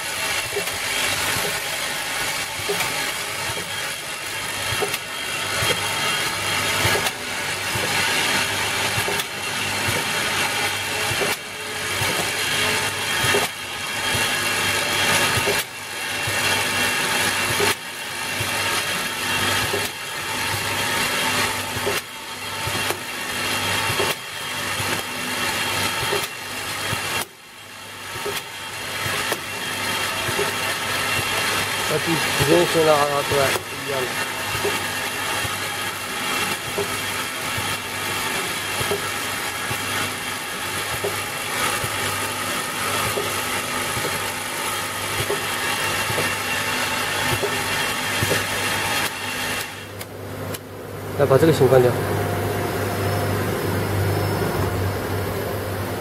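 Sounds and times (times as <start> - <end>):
packaging machinery hum: 0.0 - 56.0
bottles clicking on conveyor: 0.1 - 27.4, 28.1 - 50.1.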